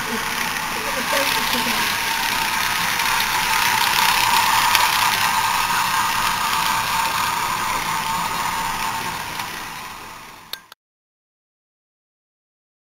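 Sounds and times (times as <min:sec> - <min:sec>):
toy train motor whirring: 0:00.0 - 0:10.8.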